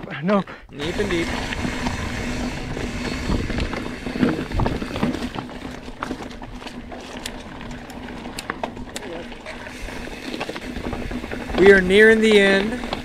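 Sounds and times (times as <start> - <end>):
bike rattling: 0.7 - 13.0
bike tyres crunching on rocks: 0.8 - 13.0.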